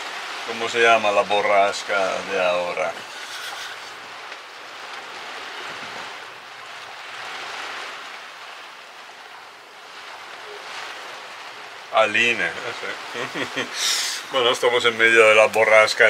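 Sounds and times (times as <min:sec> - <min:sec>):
rain: 0:00.0 - 0:16.0
wind: 0:00.0 - 0:16.0.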